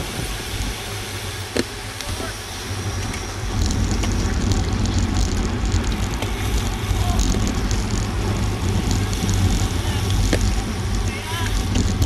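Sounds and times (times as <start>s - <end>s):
tyre noise on road: 0.0s - 12.0s
wind buffeting microphone: 0.0s - 12.0s
bicycle clicks: 0.1s - 12.0s.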